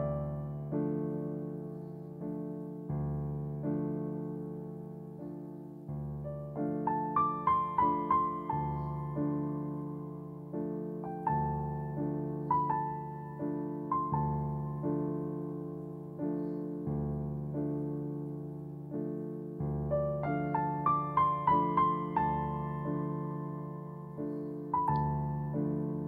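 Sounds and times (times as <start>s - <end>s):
slow gentle piano music: 0.0s - 26.0s.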